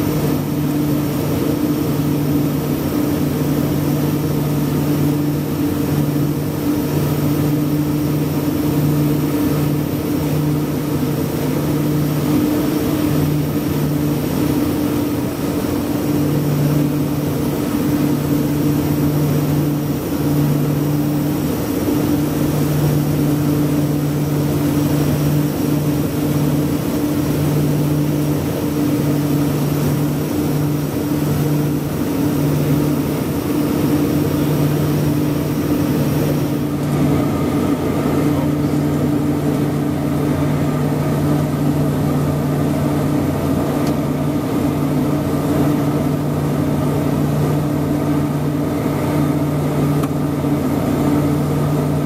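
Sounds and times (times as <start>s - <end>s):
rushing airflow: 0.0s - 51.7s
propeller drone: 0.0s - 52.0s.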